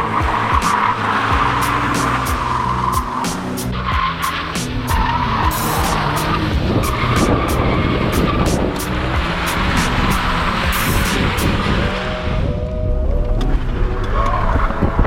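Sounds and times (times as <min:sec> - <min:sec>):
background music with beat: 0:00.0 - 0:15.0
car engine under load: 0:00.0 - 0:15.0
tires squealing: 0:00.0 - 0:15.0.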